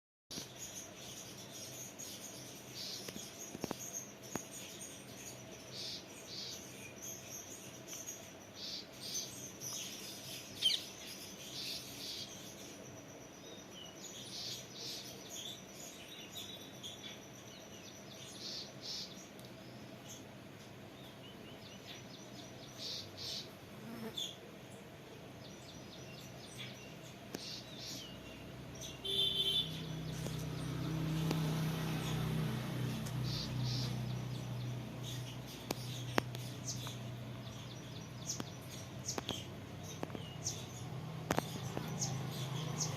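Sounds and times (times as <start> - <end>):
sparrows chirping: 0.3 - 42.9.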